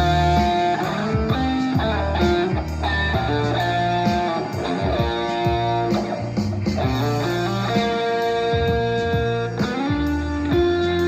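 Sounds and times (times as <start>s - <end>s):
electric guitar lead lines: 0.0s - 11.0s
low bass notes: 0.0s - 11.0s.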